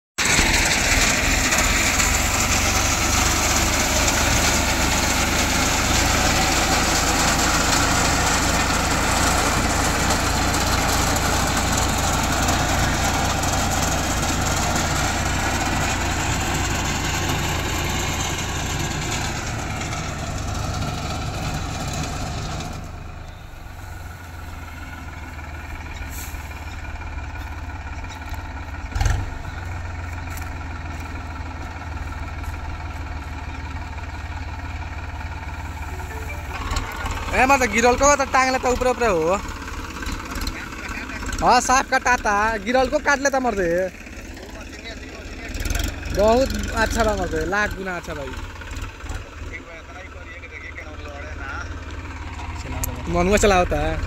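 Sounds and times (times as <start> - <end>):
tractor engine running: 0.2 - 54.0.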